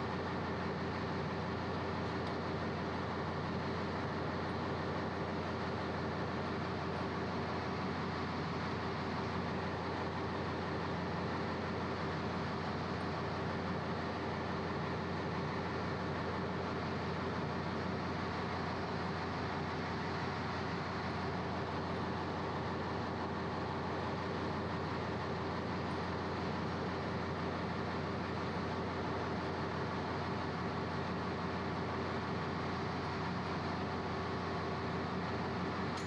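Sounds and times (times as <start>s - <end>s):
engine-room machinery drone: 0.0s - 36.0s.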